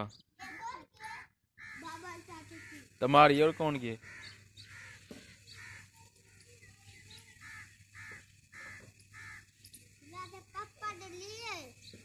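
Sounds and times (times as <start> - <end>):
bird harsh calls: 0.0 - 12.0.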